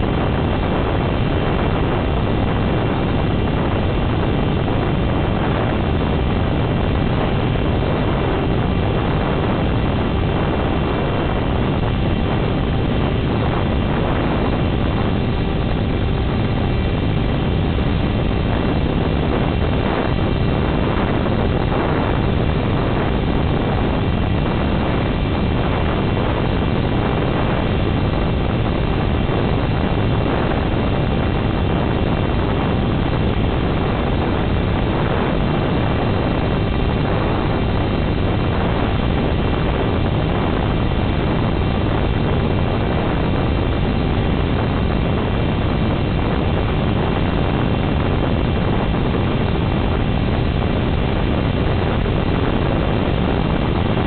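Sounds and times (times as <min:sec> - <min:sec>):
wind rushing: 0:00.0 - 0:54.0.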